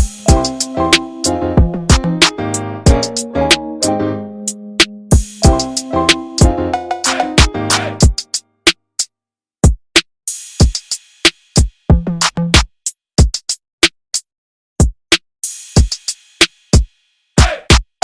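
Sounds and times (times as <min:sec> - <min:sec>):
drum-machine beat: 0:00.0 - 0:03.7, 0:04.5 - 0:08.4, 0:09.6 - 0:13.6, 0:14.8 - 0:18.0.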